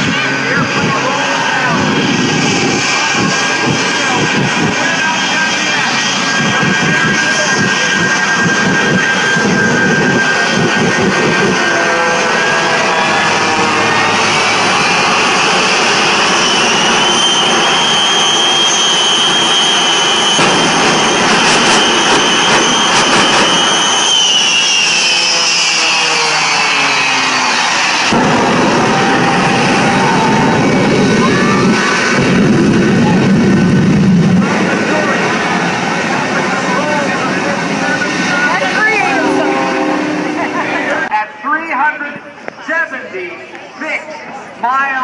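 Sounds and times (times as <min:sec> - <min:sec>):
deep rushing fire noise: 0:00.0 - 0:41.1
high engine whine: 0:00.0 - 0:42.6
jet engines roaring: 0:00.0 - 0:45.0.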